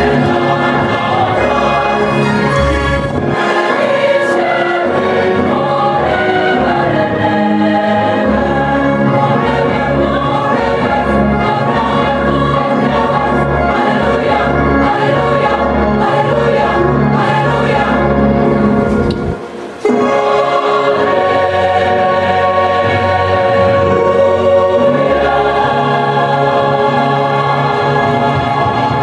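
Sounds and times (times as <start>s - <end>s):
mixed choir singing: 0.0s - 29.0s.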